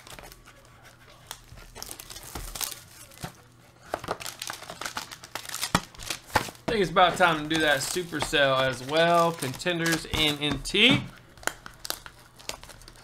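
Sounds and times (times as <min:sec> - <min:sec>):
plastic wrapping crinkling and tearing: 0:01.2 - 0:13.0.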